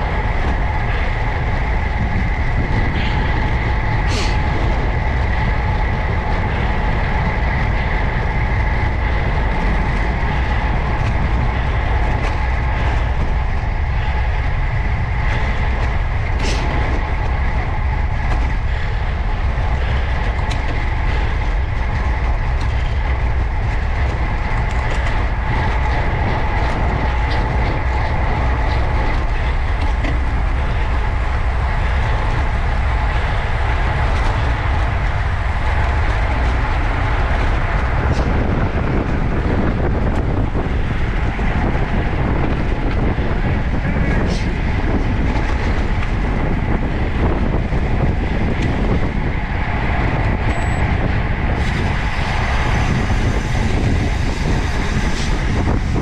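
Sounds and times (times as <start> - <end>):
faint whine: 0.0 - 56.0
road rumble: 0.0 - 56.0
wind on microphone: 0.0 - 56.0.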